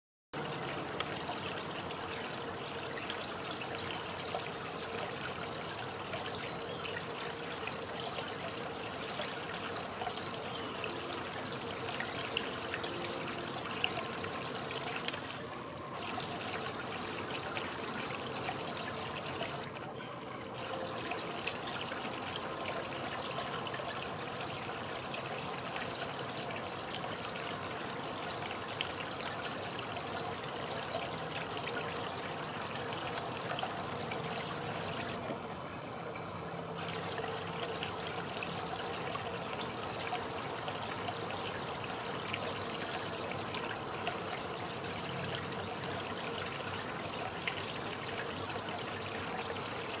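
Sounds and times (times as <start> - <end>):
water trickling: 0.4 - 50.0.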